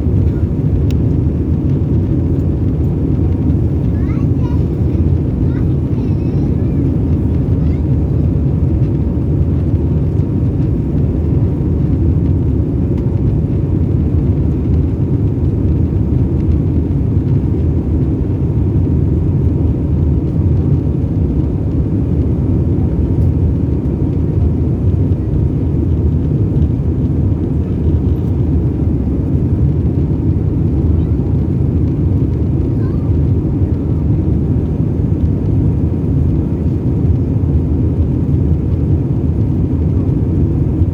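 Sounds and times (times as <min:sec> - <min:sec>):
airplane engines and rushing air: 0:00.0 - 0:40.9.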